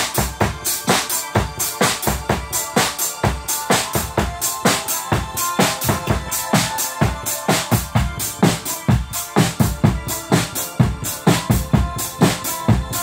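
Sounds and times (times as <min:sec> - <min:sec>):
acoustic drum kit: 0:00.0 - 0:13.0
electronic dance track: 0:00.0 - 0:13.0.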